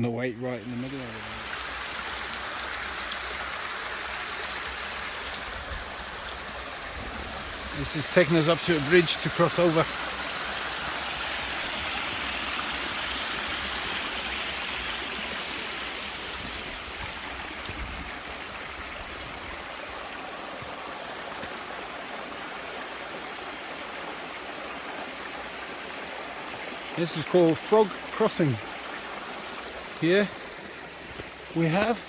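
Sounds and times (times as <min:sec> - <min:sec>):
stream water rushing: 0:00.2 - 0:32.0.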